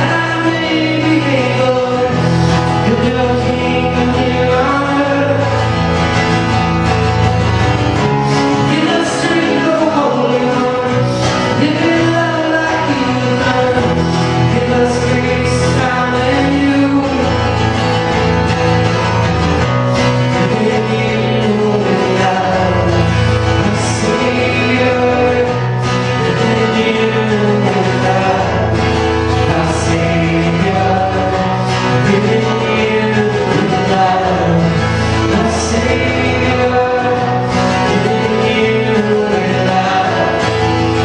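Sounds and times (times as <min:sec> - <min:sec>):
man singing into a microphone: 0:00.0 - 0:07.6, 0:08.3 - 0:41.0
strummed guitars: 0:00.0 - 0:41.0.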